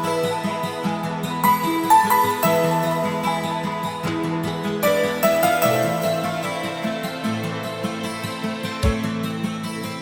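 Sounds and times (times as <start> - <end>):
gentle plucked-string instrumental music: 0.0 - 10.0.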